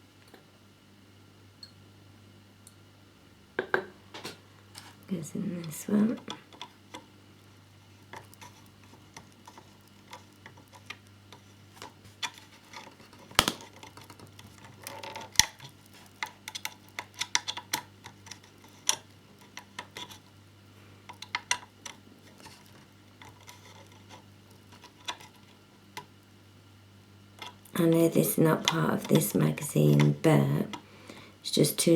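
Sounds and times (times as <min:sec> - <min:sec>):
faint low hum: 0:00.0 - 0:31.9.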